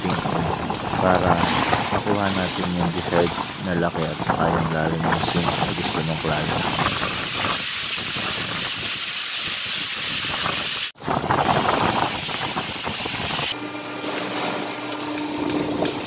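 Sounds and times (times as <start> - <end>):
hissing machine noise: 0.0 - 16.0.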